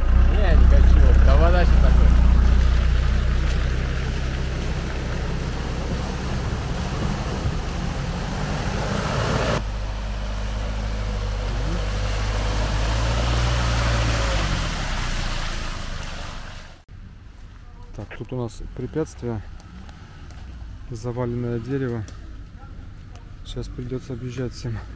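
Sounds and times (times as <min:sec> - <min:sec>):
off-road vehicle engine running: 0:00.0 - 0:24.9.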